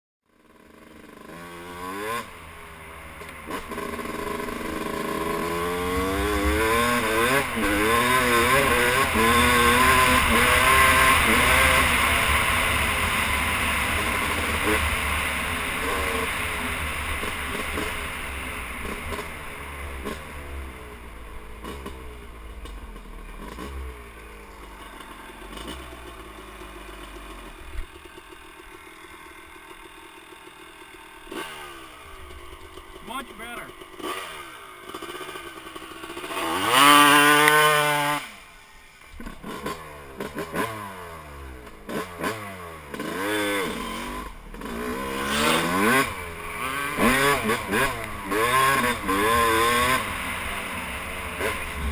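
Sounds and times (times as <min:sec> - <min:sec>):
dirt bike engine revving: 0:00.3 - 0:51.9.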